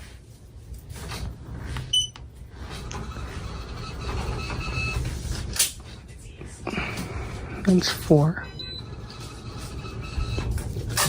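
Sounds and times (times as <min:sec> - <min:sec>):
ceiling fan air rumble: 0:00.0 - 0:11.0.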